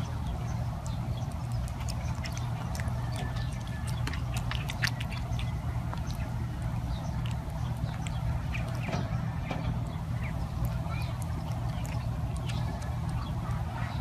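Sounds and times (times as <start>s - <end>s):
monkey licking and smacking food: 0.0s - 8.9s, 9.8s - 13.9s
low hum: 0.0s - 14.0s.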